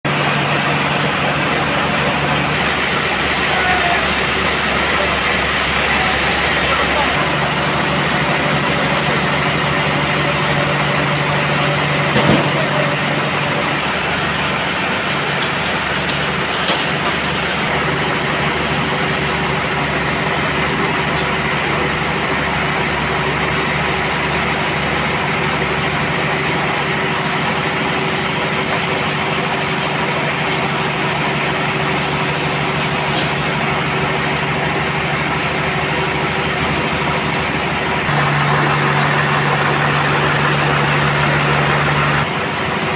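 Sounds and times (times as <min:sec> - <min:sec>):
band sawmill droning: 0:00.0 - 0:42.9.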